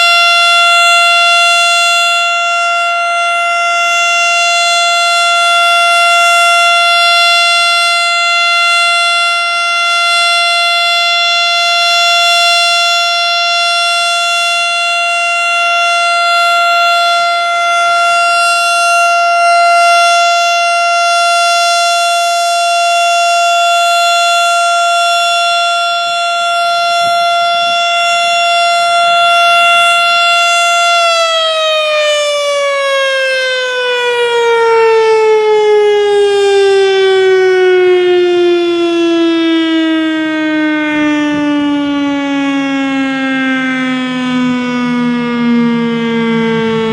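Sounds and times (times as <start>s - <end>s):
warning siren steady tone: 0.0s - 46.9s.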